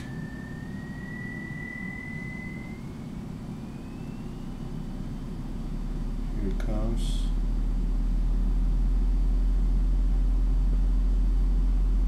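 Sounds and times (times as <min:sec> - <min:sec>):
faint high whine rising: 0:00.0 - 0:12.0
subwoofers playing low sine tone: 0:00.0 - 0:12.0.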